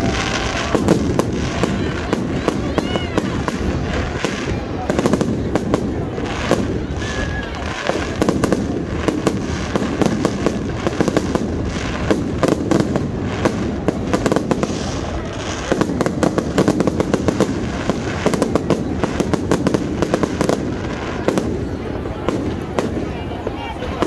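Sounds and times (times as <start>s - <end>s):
fireworks crackling and banging: 0.0s - 24.0s.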